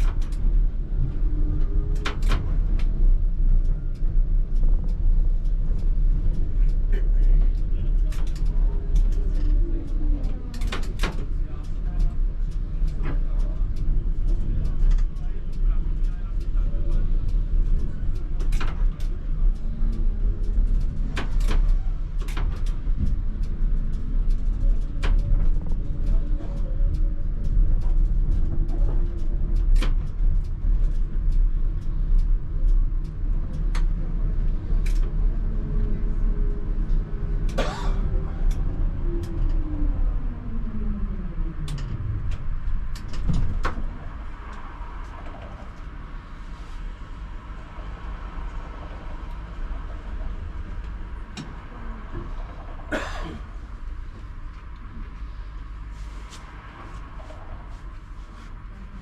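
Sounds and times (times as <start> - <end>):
wheels clicking over rails: 0.0 - 55.1
tram rumbling on track: 0.0 - 59.0.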